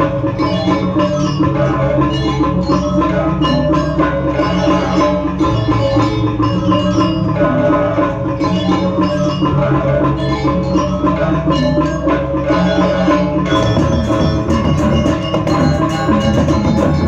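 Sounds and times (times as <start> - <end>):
deep sustained gong tones: 0.0 - 17.0
drumming: 0.0 - 17.0
gong-chime figures: 0.0 - 17.0.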